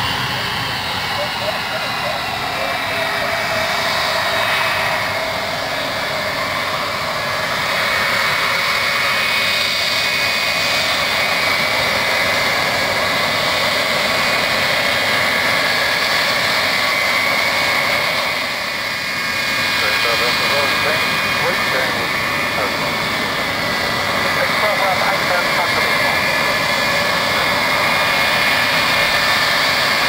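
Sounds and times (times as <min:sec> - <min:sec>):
jet engine roar with fan whine: 0:00.0 - 0:30.0.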